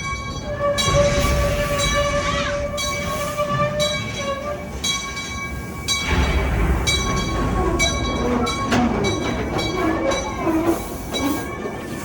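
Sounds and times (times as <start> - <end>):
low rumble of train cars: 0.0 - 12.0
train wheels squealing: 0.0 - 12.0.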